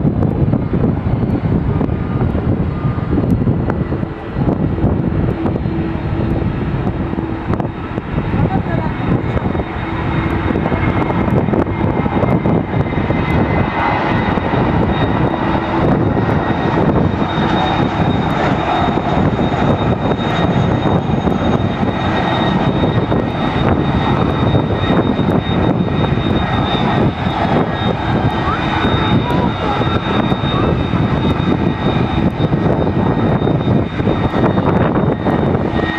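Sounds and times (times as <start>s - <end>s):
airliner engines rushing: 0.0s - 35.9s
high engine whine: 0.0s - 35.9s.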